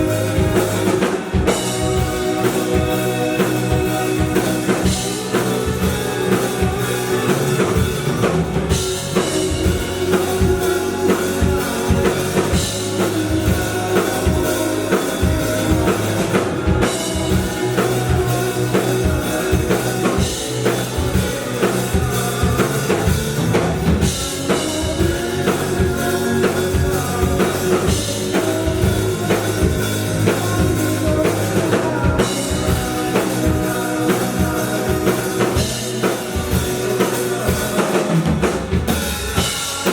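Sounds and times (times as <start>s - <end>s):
drum kit beat: 0.0s - 39.9s
rock band playing live: 0.0s - 39.9s.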